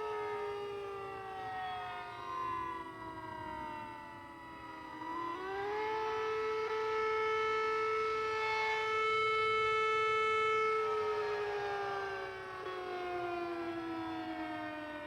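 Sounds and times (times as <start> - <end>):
tornado siren wailing: 0.0 - 15.0.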